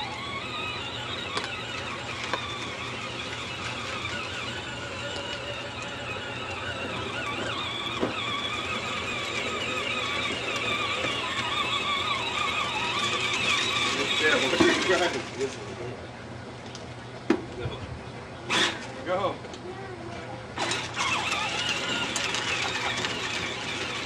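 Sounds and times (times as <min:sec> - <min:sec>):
electric toy tractor motor whine: 0:00.0 - 0:15.5, 0:18.5 - 0:18.9, 0:20.6 - 0:24.0.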